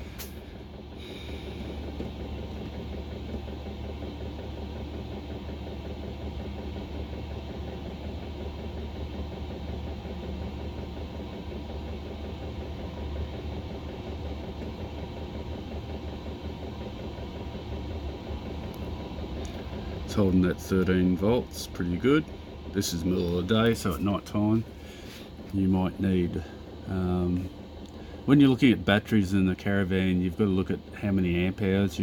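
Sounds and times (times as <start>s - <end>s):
air heater blower drone: 0.0s - 32.0s.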